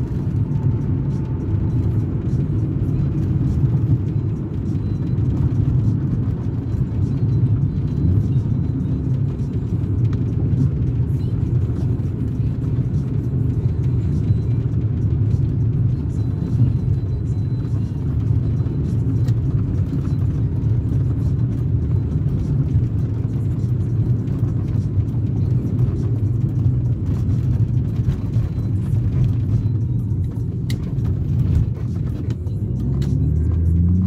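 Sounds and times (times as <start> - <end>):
car engine rumbling from inside: 0.0 - 34.0.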